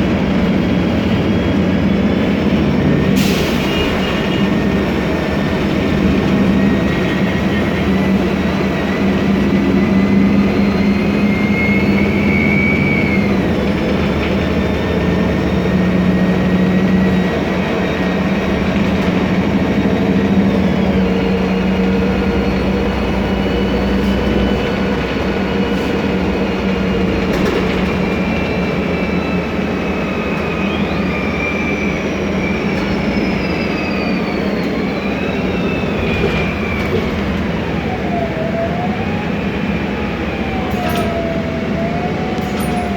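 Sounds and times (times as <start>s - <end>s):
bus engine drone: 0.0s - 42.9s
gearbox whine: 3.7s - 42.9s.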